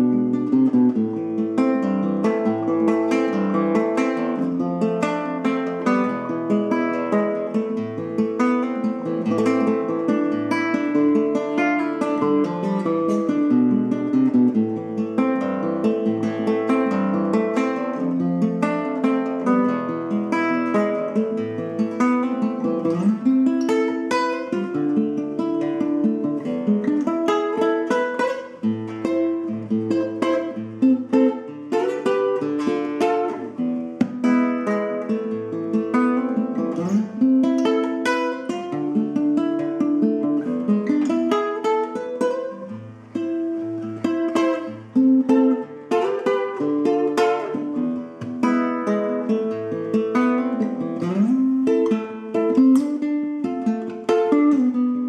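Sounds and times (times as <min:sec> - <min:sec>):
classical guitar fingerstyle: 0:00.0 - 0:55.0.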